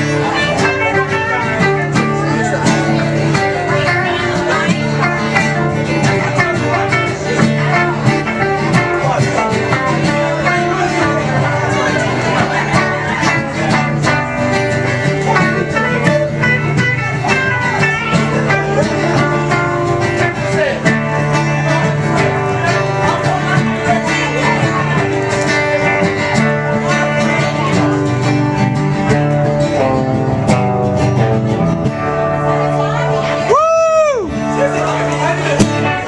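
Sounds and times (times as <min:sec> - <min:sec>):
live band with plucked strings: 0:00.0 - 0:36.0.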